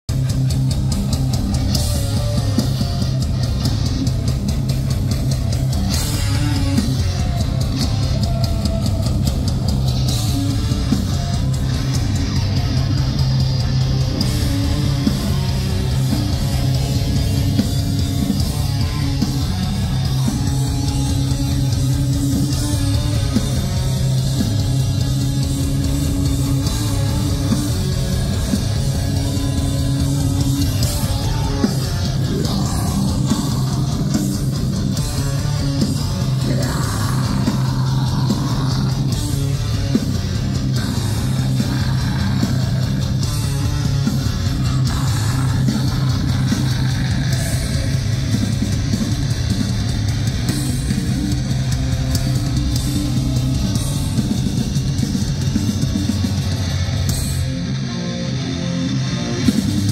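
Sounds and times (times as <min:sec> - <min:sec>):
bass guitar: 0:00.0 - 0:59.9
distorted electric guitars: 0:00.0 - 0:59.9
drum kit: 0:00.1 - 0:59.9.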